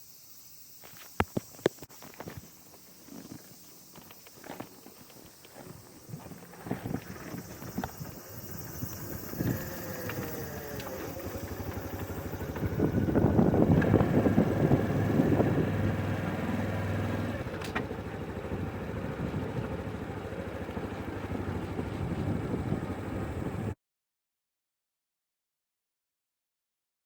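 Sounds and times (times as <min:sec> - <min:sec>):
motorcycle engine running: 0:01.2 - 0:23.8.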